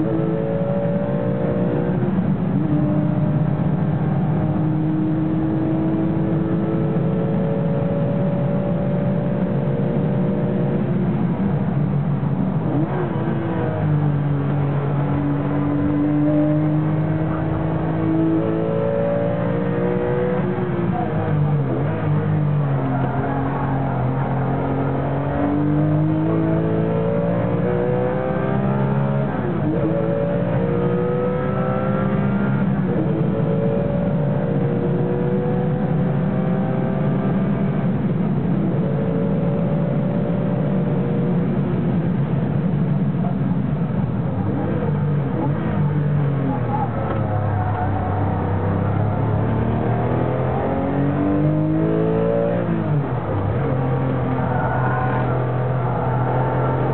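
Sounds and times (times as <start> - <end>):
car engine under load: 0.0 - 56.9
road and cabin drone: 0.0 - 56.9.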